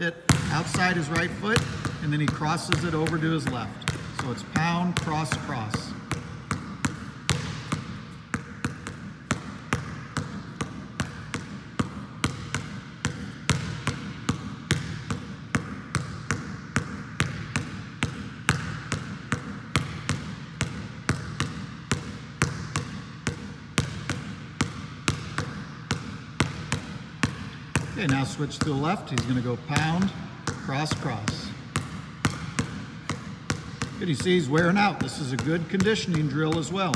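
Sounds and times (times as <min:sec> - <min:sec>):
basketball dribbling on gym floor: 0:00.1 - 0:36.9.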